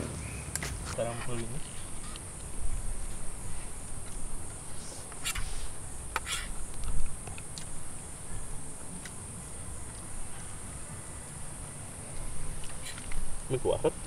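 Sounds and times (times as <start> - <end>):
insect chorus: 0.0 - 14.0.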